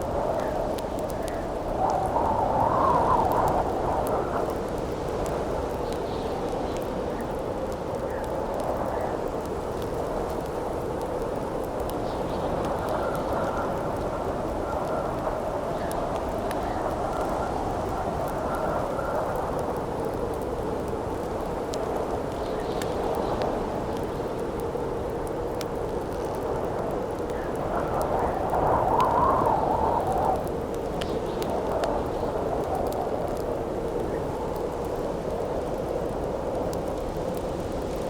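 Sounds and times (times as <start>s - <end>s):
campfire crackling: 0.0s - 38.0s
howling wind: 0.0s - 38.0s.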